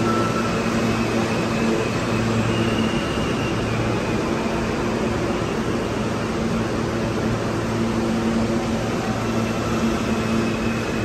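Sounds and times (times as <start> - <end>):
faint high whine: 0.0 - 11.0
standing train hum: 0.0 - 11.0
train pulling out: 0.0 - 11.0.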